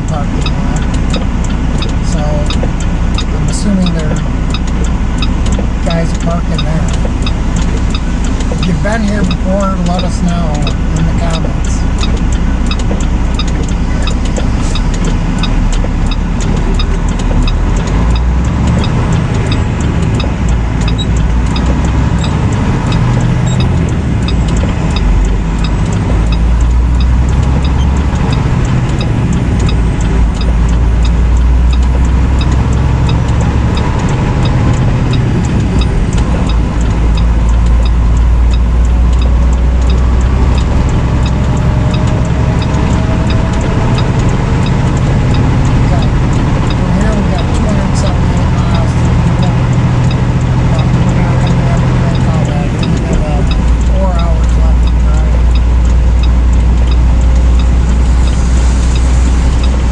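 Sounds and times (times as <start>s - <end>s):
truck engine and road rumble: 0.0s - 59.9s
faint ticks: 0.1s - 59.9s.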